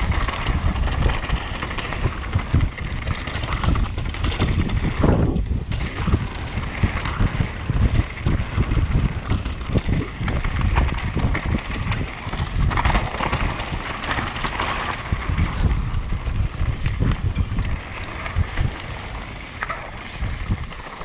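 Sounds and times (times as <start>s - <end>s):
bike frame rattling: 0.0s - 21.0s
tyres rumbling on dirt trail: 0.0s - 21.0s
wind buffeting microphone: 0.0s - 21.0s.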